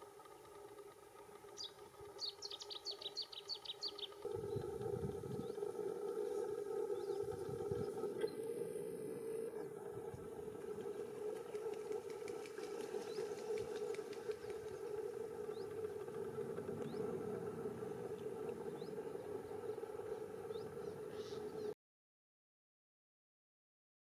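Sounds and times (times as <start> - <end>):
steady hum: 0.0 - 21.8
distant high bird chirps: 1.5 - 21.8.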